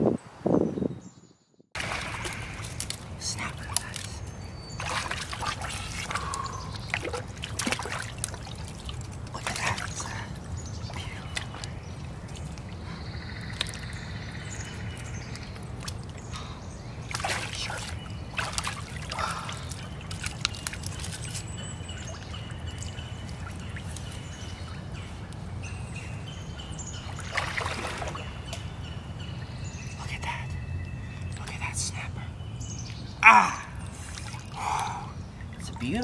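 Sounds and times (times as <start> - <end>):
birds singing: 0.0 - 36.0
water splashing and sloshing: 1.8 - 31.5, 32.9 - 36.0.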